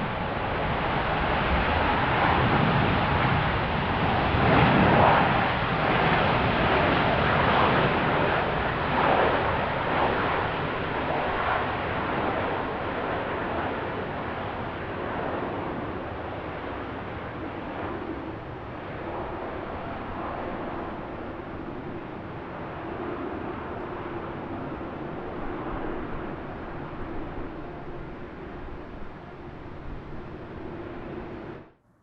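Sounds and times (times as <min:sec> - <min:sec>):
jet airliner engines rushing: 0:00.0 - 0:31.8.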